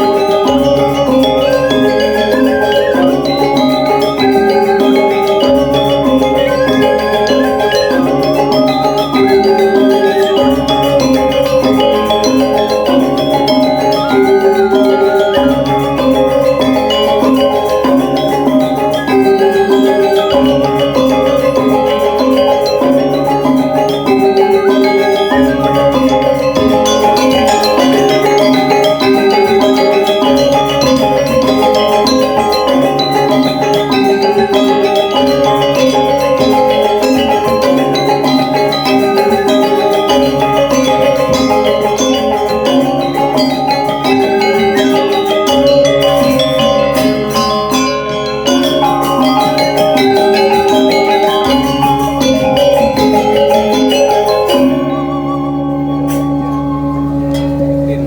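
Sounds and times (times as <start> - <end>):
gamelan ensemble playing: 0.0 - 58.0.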